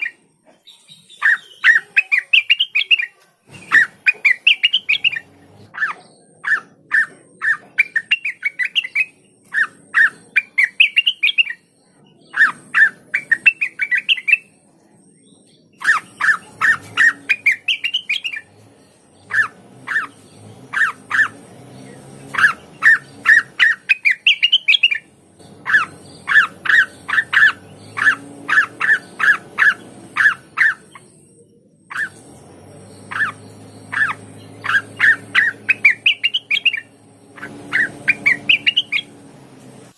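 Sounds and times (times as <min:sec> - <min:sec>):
bird singing sharp repeated notes: 0:00.0 - 0:39.9.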